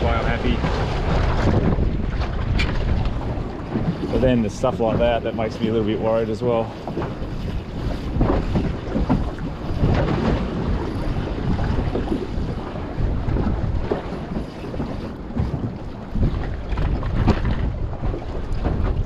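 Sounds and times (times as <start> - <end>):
choppy sea sloshing: 0.0 - 19.0
wind buffeting microphone: 0.0 - 19.0.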